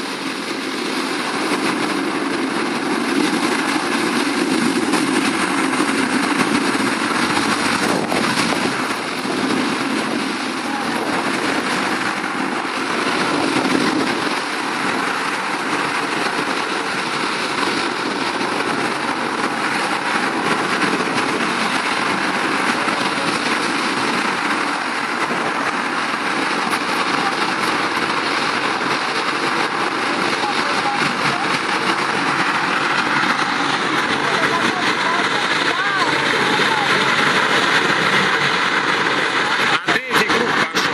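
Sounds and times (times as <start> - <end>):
hovercraft engines roaring: 0.0 - 40.9.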